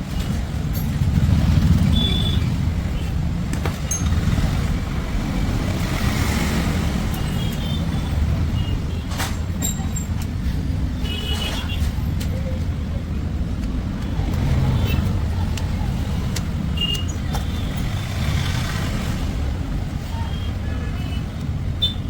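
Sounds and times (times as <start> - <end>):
low rumble of motor vehicles: 0.0 - 22.0.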